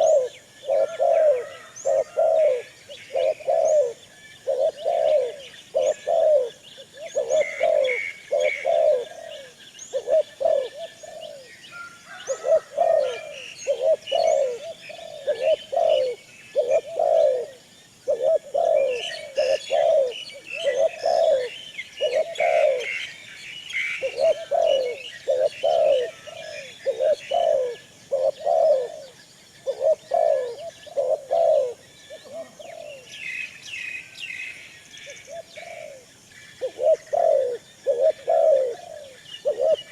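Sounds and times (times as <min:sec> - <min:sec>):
pigeons cooing: 0:00.0 - 0:33.4, 0:35.0 - 0:39.9
small birds chirping: 0:00.0 - 0:39.9.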